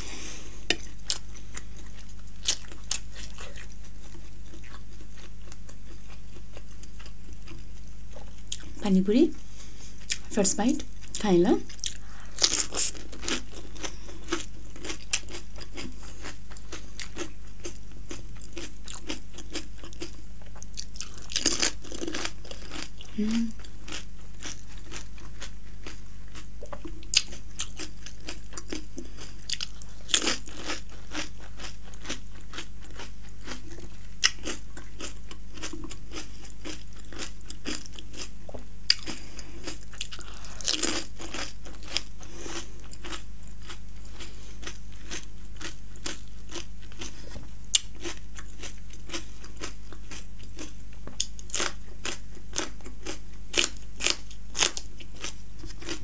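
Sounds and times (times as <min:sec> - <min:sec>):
chewing crunchy food: 0:00.6 - 0:08.8, 0:09.9 - 0:56.0.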